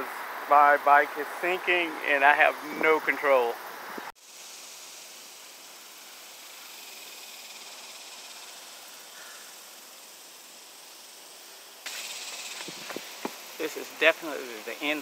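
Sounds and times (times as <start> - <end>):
high-pitched outdoor hiss: 0.0 - 15.0.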